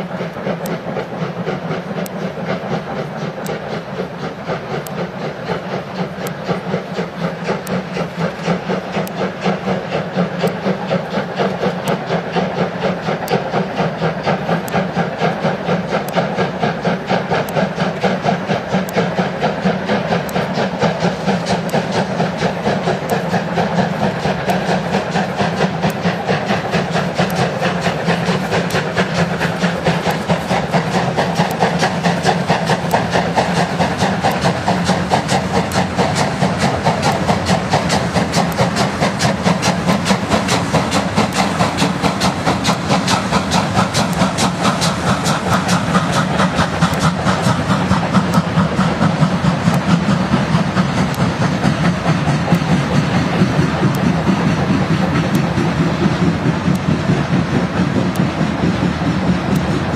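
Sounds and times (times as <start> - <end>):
hissing steam: 0.0 - 59.9
steam locomotive chuffing: 0.0 - 59.9.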